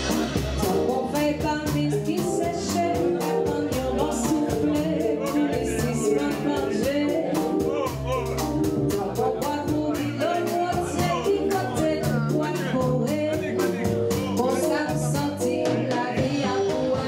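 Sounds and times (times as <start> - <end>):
woman singing: 0.0 - 7.7, 8.8 - 17.0
drums keeping a steady beat: 0.0 - 17.0
piano: 0.0 - 17.0
upright double bass: 0.0 - 17.0.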